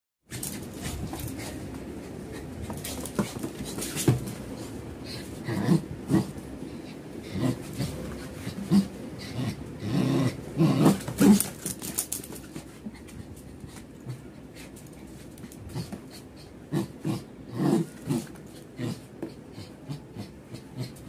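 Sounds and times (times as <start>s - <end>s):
dog growling: 0.4s - 12.2s, 15.4s - 21.0s.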